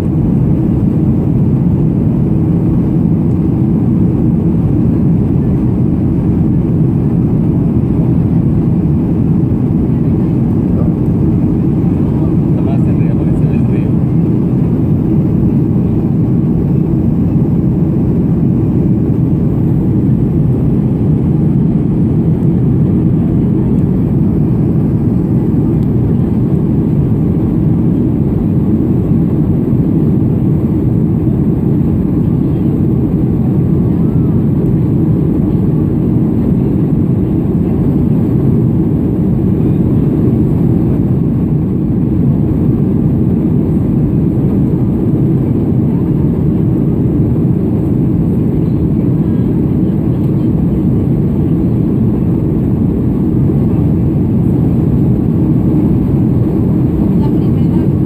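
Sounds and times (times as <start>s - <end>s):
jet engine cabin roar: 0.0s - 58.0s.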